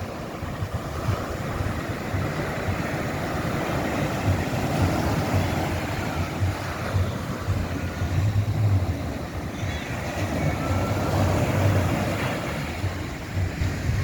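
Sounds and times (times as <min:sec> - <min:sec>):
ocean surf breaking: 0:00.0 - 0:14.0
wind rumbling on microphone: 0:00.0 - 0:14.0.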